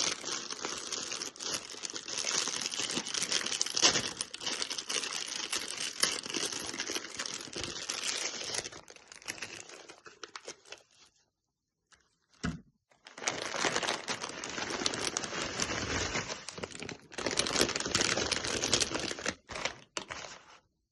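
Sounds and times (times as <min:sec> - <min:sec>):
plastic wrapper crinkling: 0:00.0 - 0:11.1, 0:12.9 - 0:20.7.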